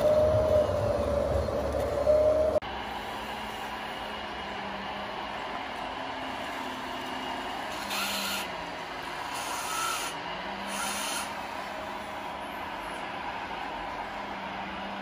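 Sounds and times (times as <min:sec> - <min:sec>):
motor hum with whine: 0:00.0 - 0:15.0.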